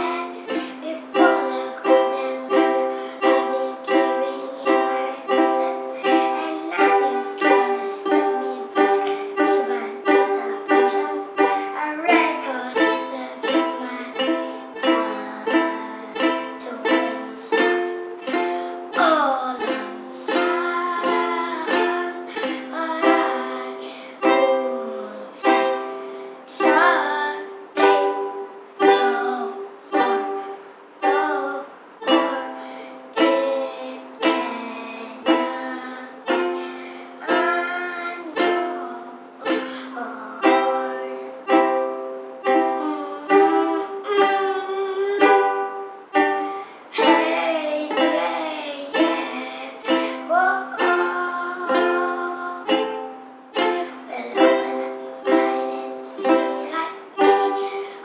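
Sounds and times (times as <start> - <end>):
person singing: 0.0 - 58.0
ukulele strumming: 0.0 - 58.0.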